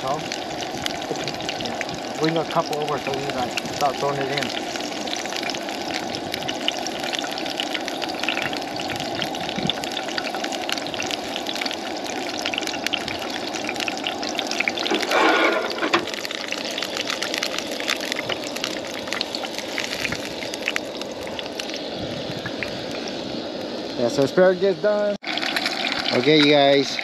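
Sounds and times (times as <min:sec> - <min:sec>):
vegetables sizzling in frying pan: 0:00.0 - 0:27.0.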